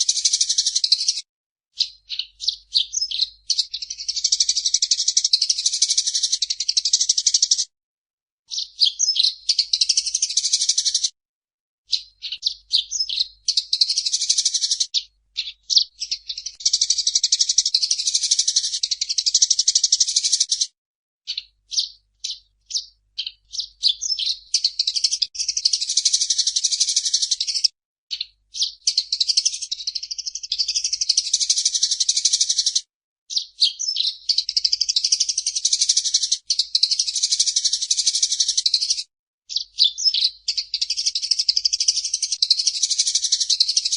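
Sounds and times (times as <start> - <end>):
sparrow chattering: 0.0 - 1.2, 1.8 - 7.6, 8.5 - 11.1, 11.9 - 20.7, 21.3 - 43.9.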